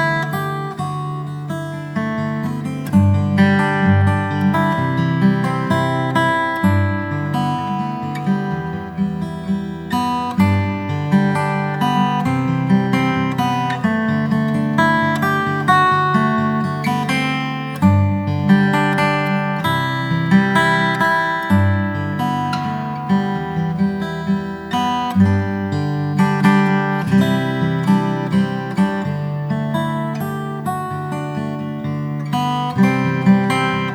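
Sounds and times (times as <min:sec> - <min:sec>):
strummed acoustic guitar: 0:00.0 - 0:33.9.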